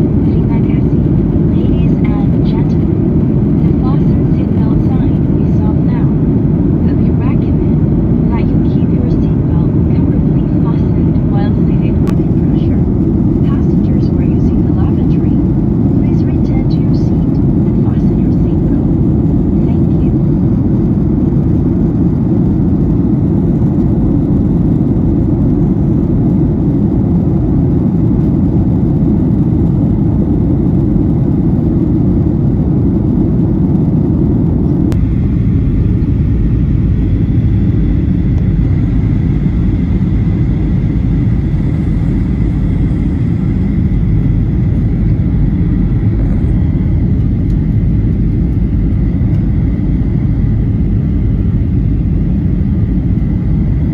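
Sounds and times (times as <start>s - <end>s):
jet airliner cabin noise: 0.0s - 53.9s.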